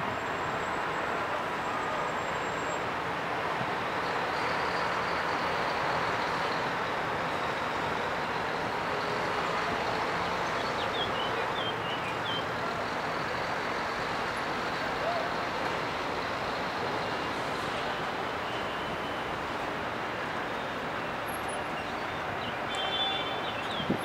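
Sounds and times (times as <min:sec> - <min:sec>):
harbour traffic: 0:00.0 - 0:24.0
lorry engines: 0:00.0 - 0:24.0.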